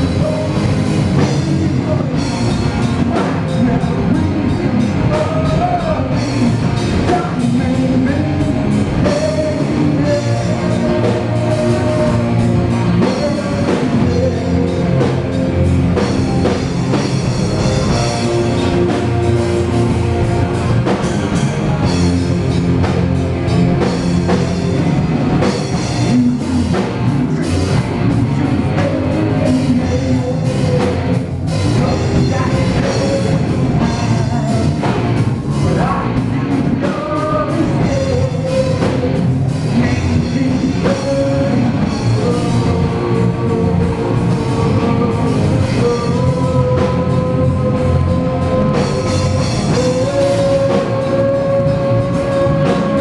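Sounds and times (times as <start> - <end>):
drum kit beat: 0.0 - 53.0
guitar: 0.0 - 53.0
keyboards: 0.0 - 53.0
rock band playing: 0.0 - 53.0.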